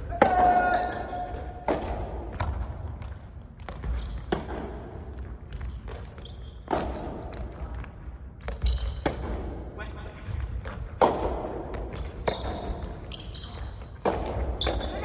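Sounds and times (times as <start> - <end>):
ball bouncing on court: 0.0 - 15.0
rackets hitting tennis ball: 0.0 - 15.0.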